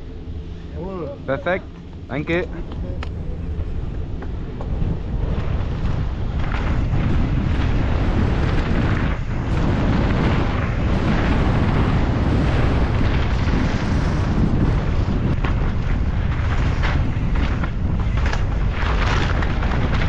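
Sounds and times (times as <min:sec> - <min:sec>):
wind rushing over microphone: 0:00.0 - 0:20.0
tyres rolling on gravel: 0:01.4 - 0:20.0
bike rattling over roots: 0:01.8 - 0:20.0.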